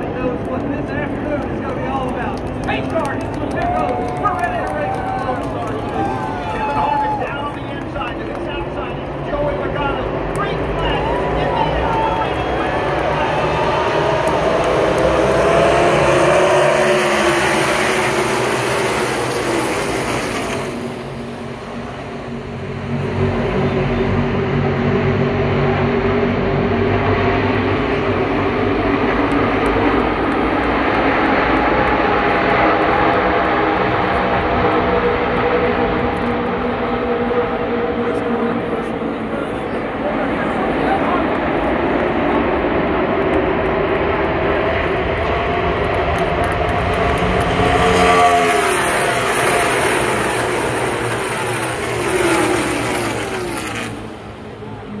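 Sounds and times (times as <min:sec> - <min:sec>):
many car engines droning: 0:00.0 - 0:55.0.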